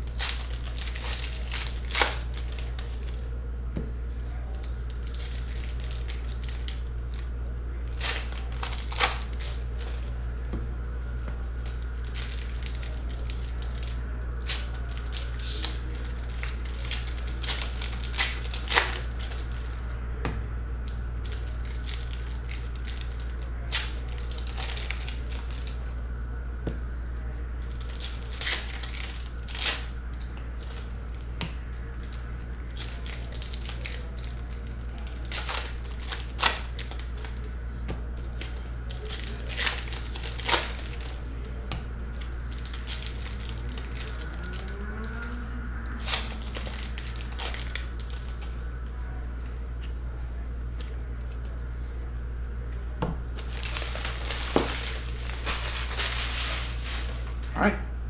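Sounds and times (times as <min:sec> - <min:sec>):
foil wrappers crinkling: 0:00.0 - 0:03.4, 0:04.1 - 0:10.3, 0:11.0 - 0:20.0, 0:20.8 - 0:26.0, 0:27.0 - 0:49.2, 0:53.3 - 0:57.5
steady low hum: 0:00.0 - 0:58.0.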